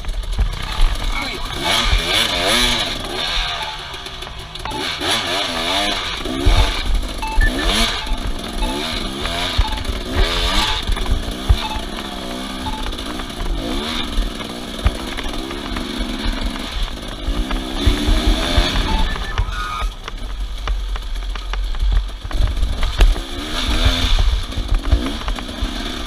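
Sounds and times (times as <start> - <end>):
engine revving: 0.0 - 26.0.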